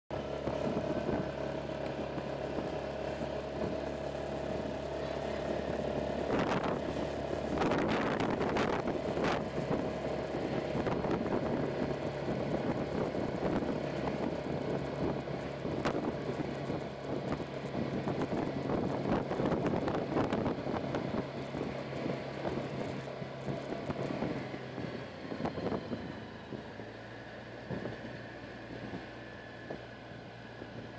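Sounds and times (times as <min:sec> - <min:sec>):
scooter engine running: 0:00.1 - 0:30.9
wind buffeting microphone: 0:00.1 - 0:30.9.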